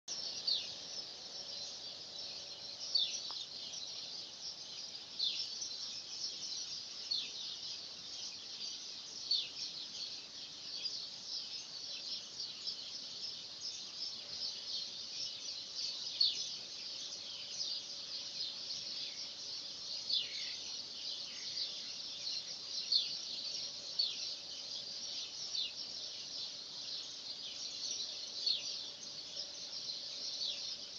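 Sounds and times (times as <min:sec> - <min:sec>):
many small birds chirping: 0:00.0 - 0:30.9.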